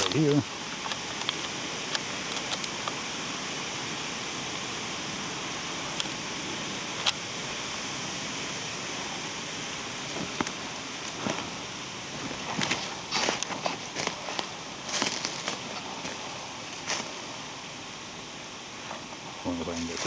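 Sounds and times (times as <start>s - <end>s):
wind hissing: 0.0s - 20.0s.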